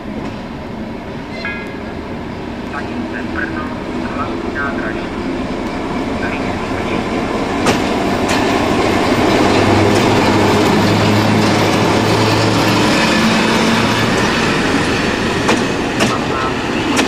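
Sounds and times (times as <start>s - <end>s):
diesel engine drone: 0.0s - 17.0s
train rumble: 0.0s - 17.0s.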